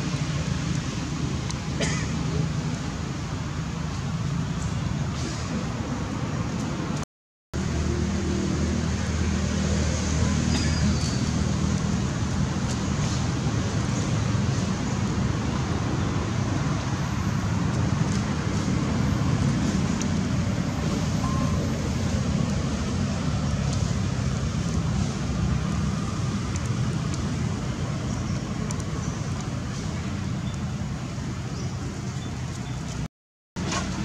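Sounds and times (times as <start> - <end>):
distant road traffic rumble: 0.0 - 7.0, 7.6 - 34.0.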